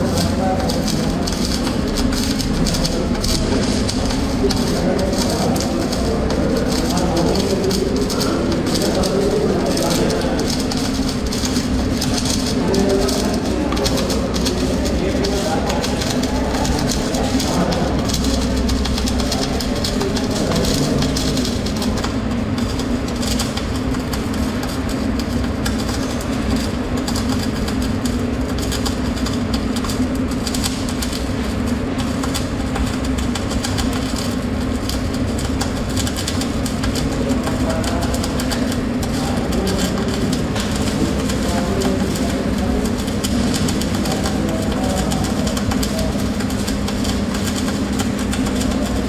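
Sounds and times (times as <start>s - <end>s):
steady low hum: 0.0s - 49.0s
welding arc crackling: 0.0s - 49.0s.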